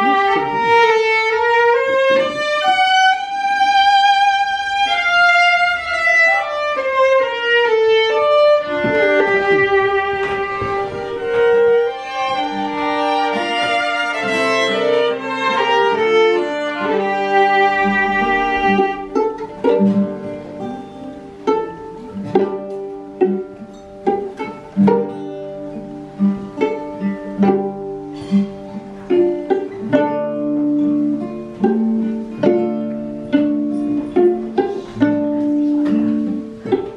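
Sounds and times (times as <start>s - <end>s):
string accompaniment: 0.0s - 36.9s
violin melody: 0.0s - 36.9s.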